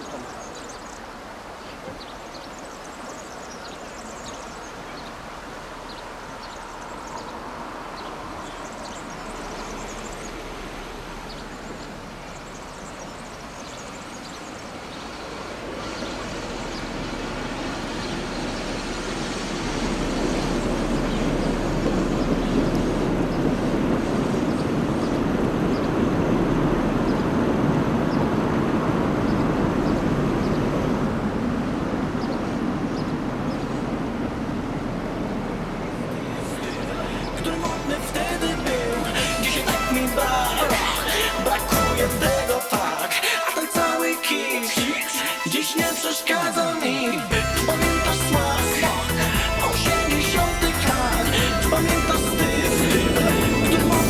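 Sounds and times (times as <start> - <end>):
diesel locomotive engine rumble: 0.0 - 42.8, 45.5 - 54.0.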